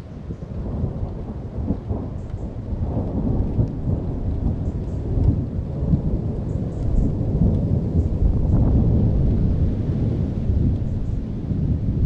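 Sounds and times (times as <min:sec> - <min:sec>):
thunder rumbling: 0:00.0 - 0:12.0
faint rain ticks: 0:00.1 - 0:09.5, 0:10.4 - 0:12.0.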